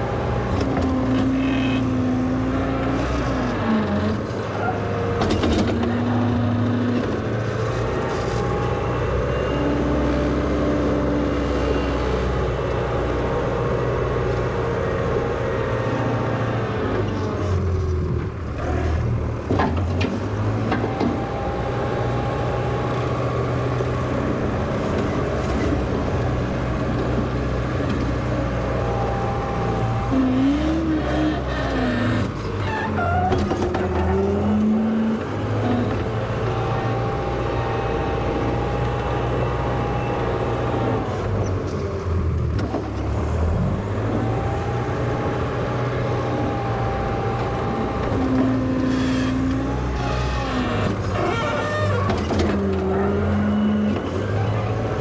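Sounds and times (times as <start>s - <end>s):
wheel loader engine running: 0.0s - 55.0s.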